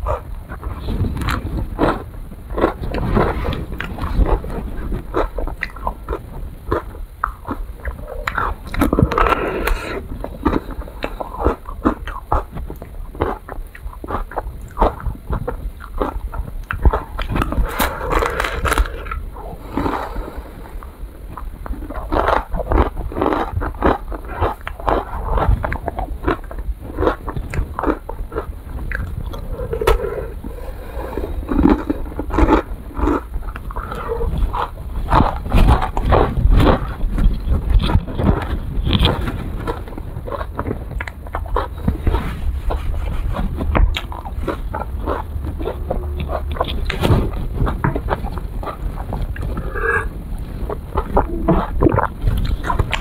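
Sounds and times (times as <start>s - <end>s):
crunching ice cream cone: 0.0s - 53.0s.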